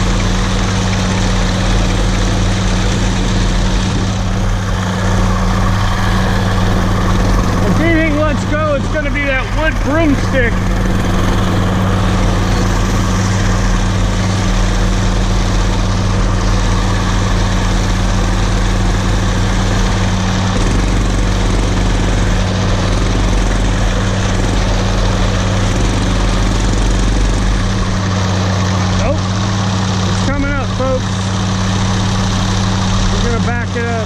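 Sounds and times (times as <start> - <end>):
minibike engine: 0.0 - 34.0
old tractor engine: 0.0 - 34.0.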